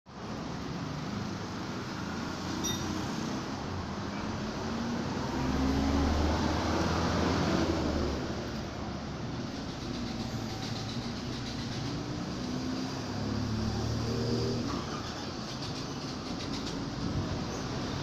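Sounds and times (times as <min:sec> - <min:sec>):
vehicle rumbling: 0:00.1 - 0:18.0.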